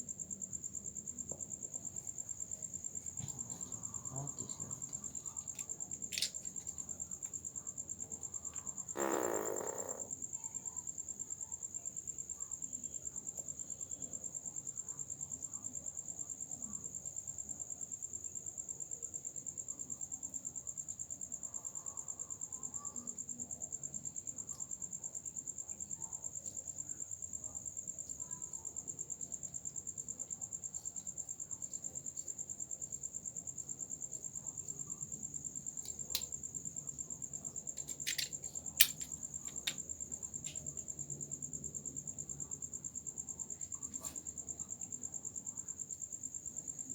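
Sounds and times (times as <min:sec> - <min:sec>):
cricket trilling: 0:00.0 - 0:46.9.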